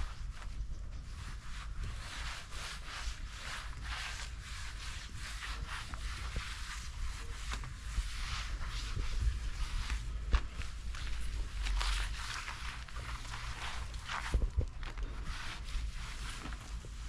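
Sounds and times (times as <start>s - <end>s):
cloth rags wiping a damp surface: 0.0s - 17.0s.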